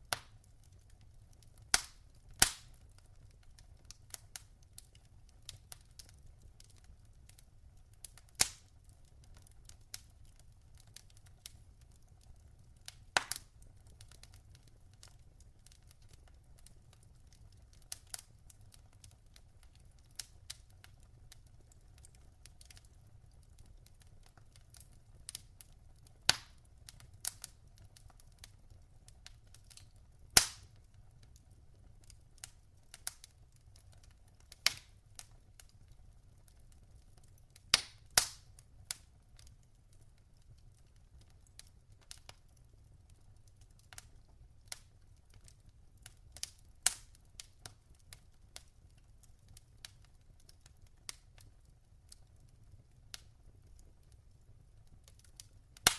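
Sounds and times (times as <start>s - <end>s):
logs crackling in fireplace: 0.0s - 55.9s.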